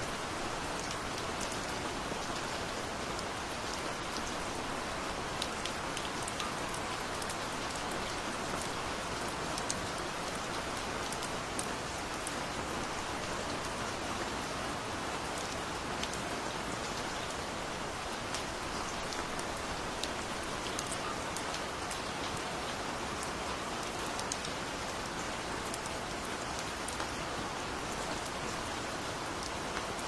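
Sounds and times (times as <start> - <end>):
gentle rain falling: 0.0 - 30.0.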